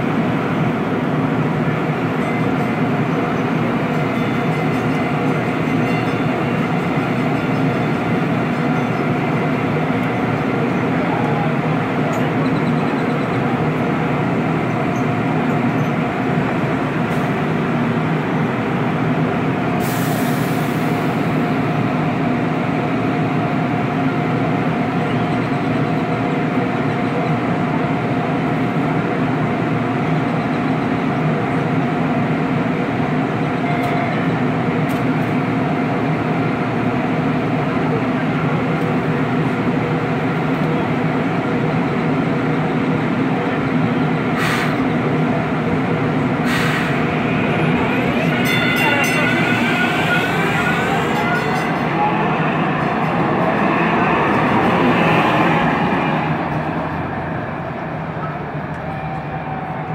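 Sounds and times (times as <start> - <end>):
light rail train humming: 0.0 - 59.9.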